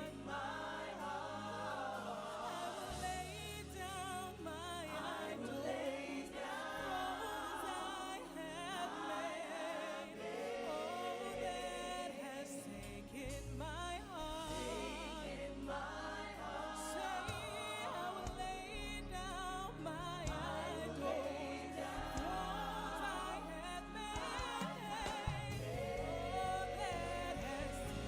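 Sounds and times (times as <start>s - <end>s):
people singing worship song: 0.0s - 28.0s.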